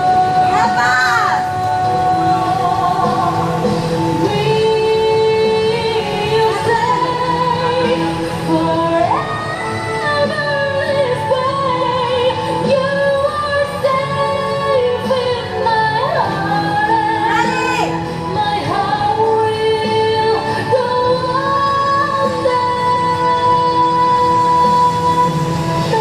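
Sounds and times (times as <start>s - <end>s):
woman singing: 0.0s - 26.0s.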